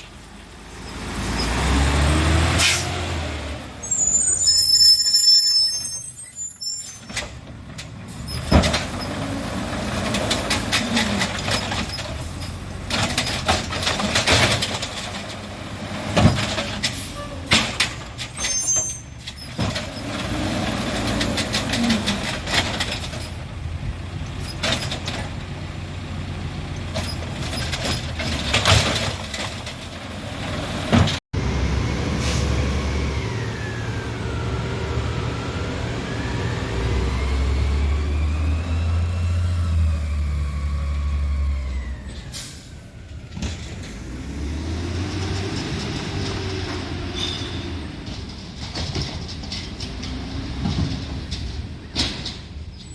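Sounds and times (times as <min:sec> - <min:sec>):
garbage truck engine revving: 0:00.6 - 0:04.8, 0:07.9 - 0:18.7, 0:19.3 - 0:42.5, 0:43.4 - 0:52.0.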